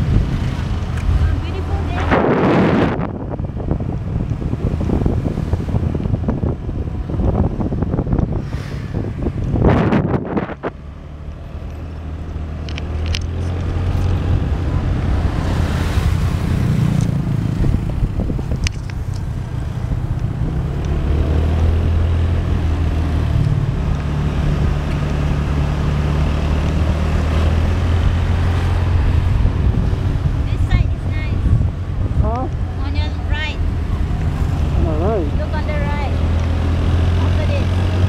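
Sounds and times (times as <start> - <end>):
road noise: 0.0 - 38.0
wind rushing over microphone: 0.0 - 38.0.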